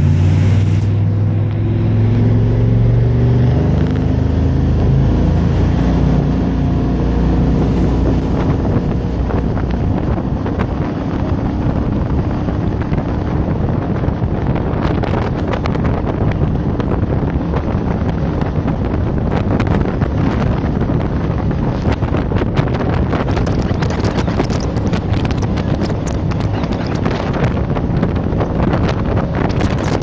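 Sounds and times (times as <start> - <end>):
boat engine drone: 0.0 - 30.0
wind buffeting microphone: 0.0 - 30.0.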